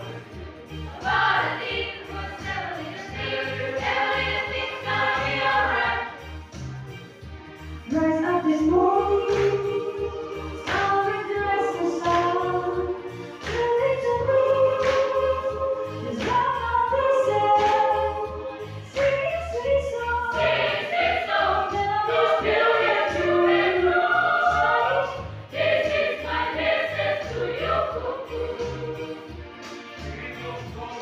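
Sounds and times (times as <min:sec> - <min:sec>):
choir singing: 0:00.0 - 0:06.4, 0:07.9 - 0:31.0.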